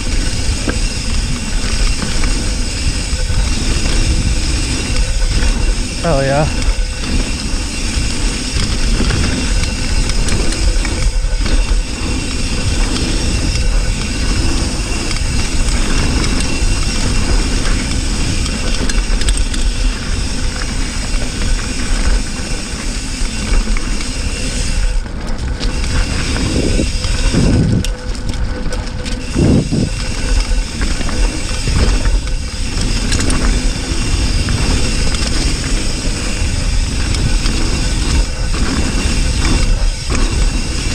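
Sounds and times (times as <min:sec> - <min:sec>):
wind on microphone: 0:00.0 - 0:22.4, 0:25.7 - 0:40.9
bike rattling and knocking: 0:00.0 - 0:40.9
tyres rolling over dirt: 0:00.0 - 0:40.9.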